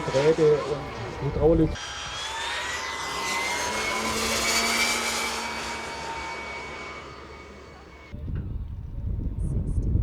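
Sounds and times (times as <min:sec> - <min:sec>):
jet turbine whine: 0:00.0 - 0:08.2.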